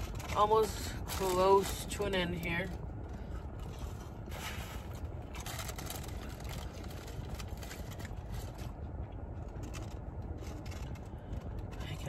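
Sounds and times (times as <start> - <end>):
paper wrapper crinkling: 0.0 - 11.8
low rumble inside a car: 0.0 - 12.0.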